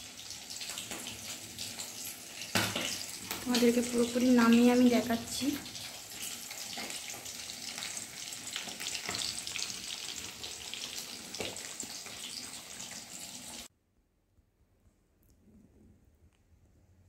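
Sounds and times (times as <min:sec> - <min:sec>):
sauce bubbling and sizzling in pan: 0:00.0 - 0:13.7.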